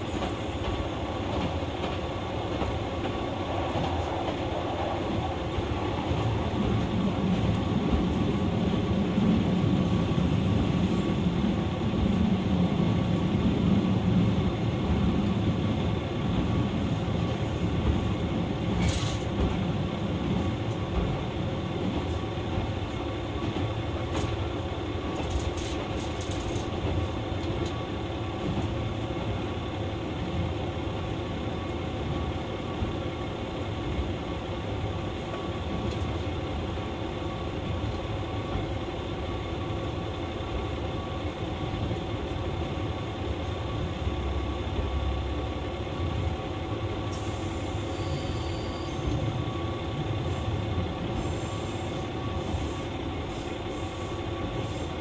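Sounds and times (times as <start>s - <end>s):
diesel railcar engine rumble: 0.0s - 55.0s.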